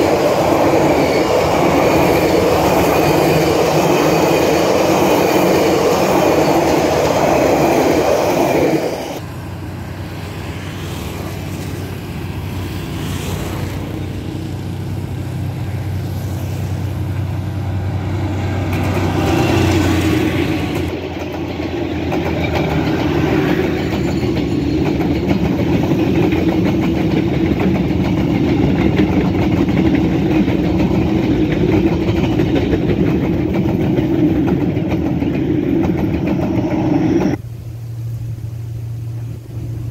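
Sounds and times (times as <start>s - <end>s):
train wheels rumbling on rails: 0.0s - 37.6s.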